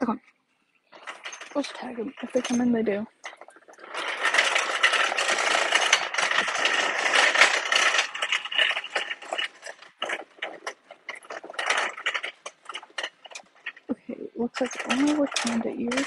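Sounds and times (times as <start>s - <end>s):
shopping cart rolling and rattling: 0.9s - 16.0s.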